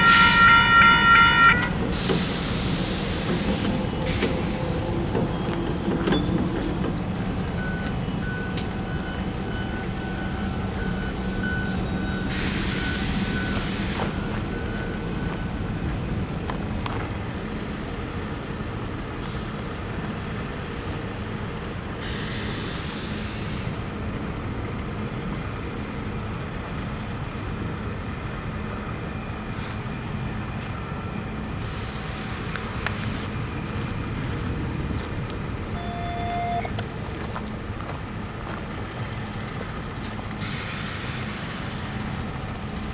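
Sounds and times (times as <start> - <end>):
diesel locomotives rumbling: 0.0 - 42.9
road traffic: 0.0 - 42.9.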